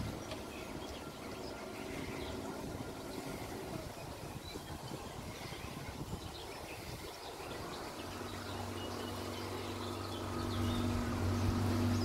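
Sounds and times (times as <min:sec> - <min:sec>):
low machine hum: 0:00.0 - 0:12.0
small birds chirping: 0:00.0 - 0:12.0.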